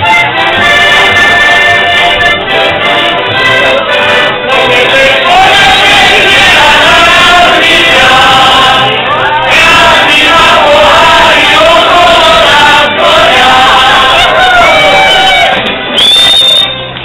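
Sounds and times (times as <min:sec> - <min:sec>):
group singing folk song: 0:00.0 - 0:15.8.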